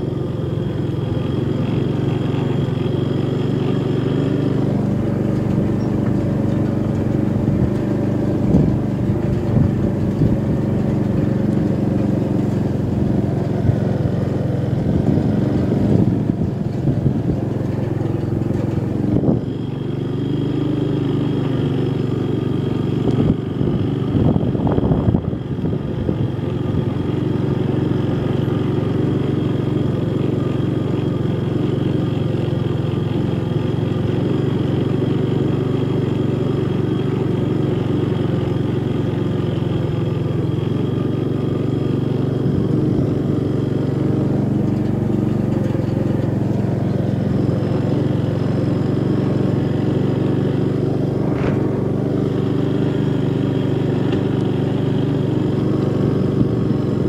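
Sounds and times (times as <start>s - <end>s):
engine running under load: 0.0s - 57.0s.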